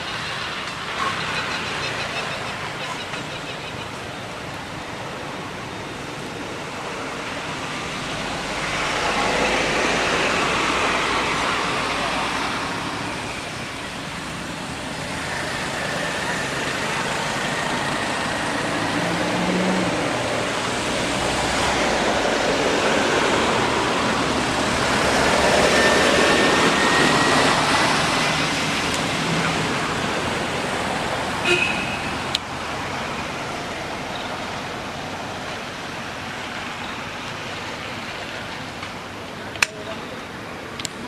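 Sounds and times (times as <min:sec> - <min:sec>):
passing road traffic: 0:00.0 - 0:41.0.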